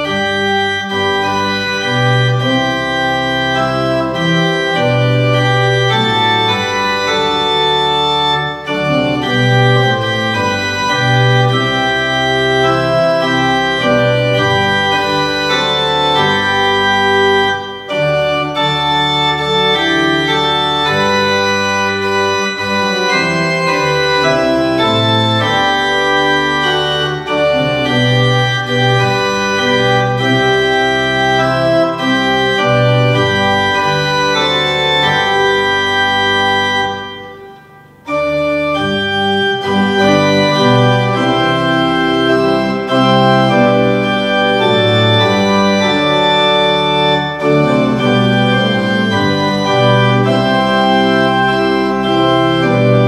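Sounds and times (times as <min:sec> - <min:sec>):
organ playing slow chords: 0:00.0 - 0:53.0.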